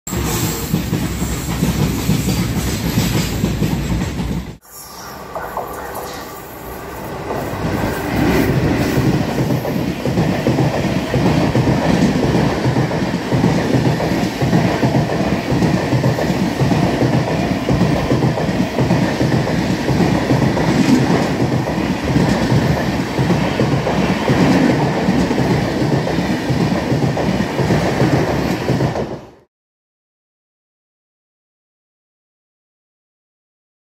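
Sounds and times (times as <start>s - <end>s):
train wheels clattering: 0.1s - 4.6s, 5.4s - 29.4s.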